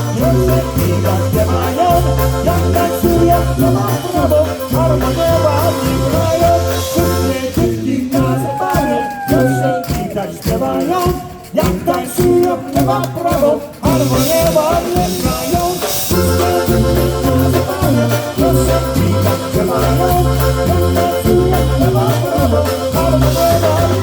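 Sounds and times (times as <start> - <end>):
accordion: 0.0 - 8.8, 9.4 - 24.0
oom-pah bass: 0.0 - 24.0.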